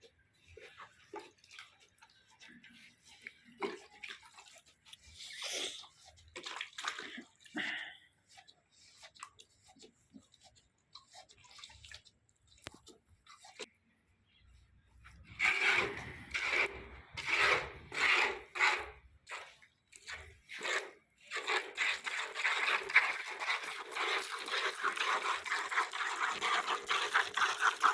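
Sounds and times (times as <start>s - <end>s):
milk squirting into a pail: 0.0s - 14.4s, 15.0s - 27.9s.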